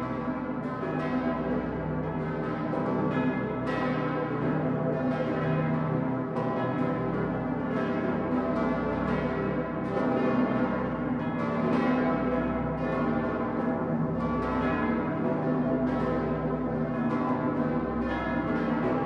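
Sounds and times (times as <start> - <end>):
large church bell ringing: 0.0 - 19.0.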